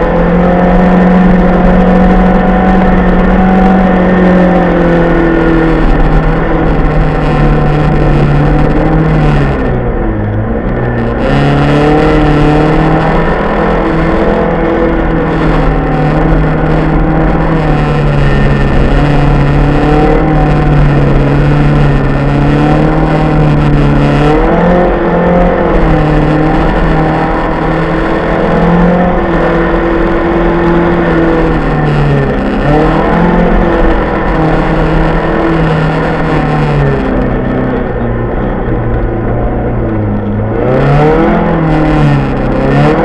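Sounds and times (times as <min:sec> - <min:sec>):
car engine at high revs: 0:00.0 - 0:43.0
tyre road noise: 0:00.0 - 0:43.0.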